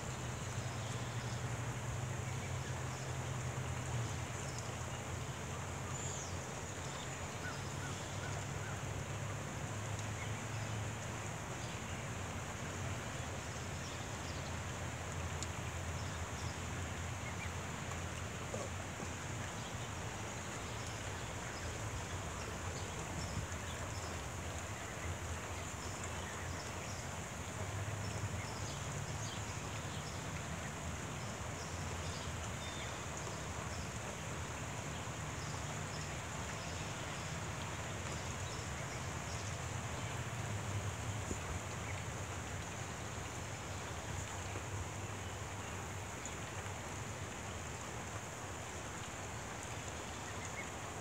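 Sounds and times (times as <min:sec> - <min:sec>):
light rain falling: 0:00.0 - 0:51.0.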